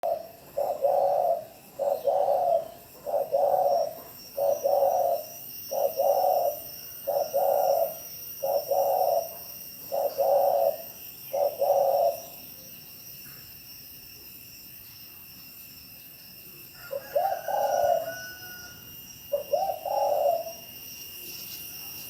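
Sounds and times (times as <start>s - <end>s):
dove cooing: 0.0s - 12.5s, 16.8s - 22.0s.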